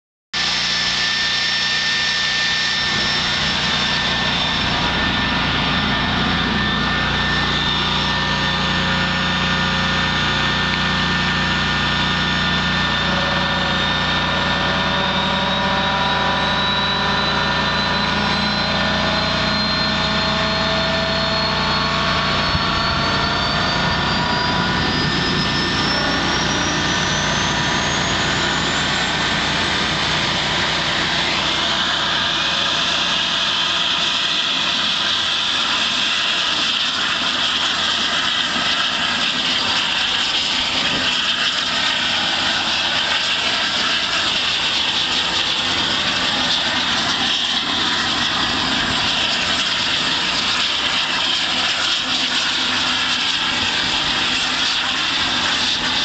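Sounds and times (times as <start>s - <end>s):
turboprop engine turbine whine: 0.4s - 56.0s.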